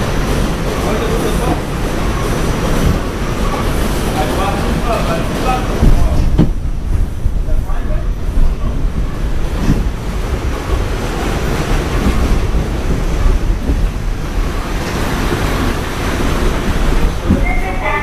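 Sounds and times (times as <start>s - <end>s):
subway wheels rumbling on rail: 0.0s - 18.0s.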